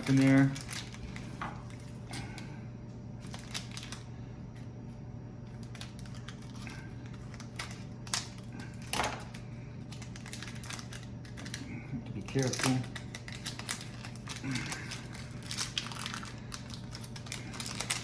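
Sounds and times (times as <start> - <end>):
packaging crinkling and clicking: 0.0 - 2.3, 3.2 - 4.1, 5.5 - 18.0.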